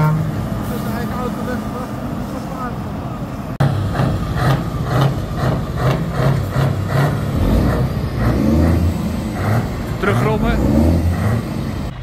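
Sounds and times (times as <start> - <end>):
truck engine pulsing rumble: 0.0 - 12.0.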